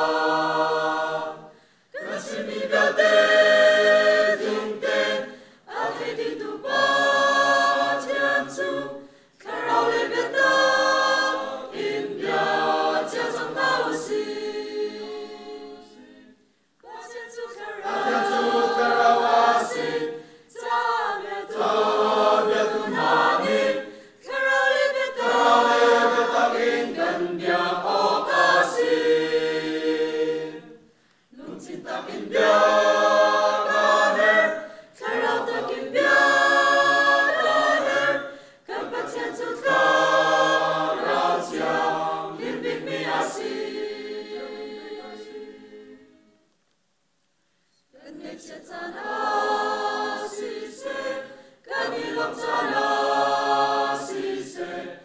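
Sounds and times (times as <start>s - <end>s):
mixed choir singing a cappella: 0.0s - 46.5s, 47.8s - 55.0s.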